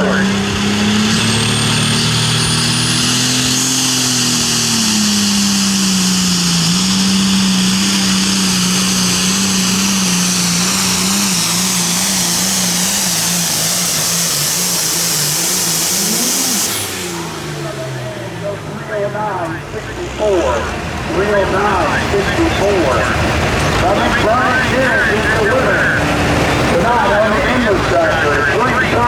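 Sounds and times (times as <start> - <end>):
tractor diesel engine at full throttle: 0.0 - 29.0.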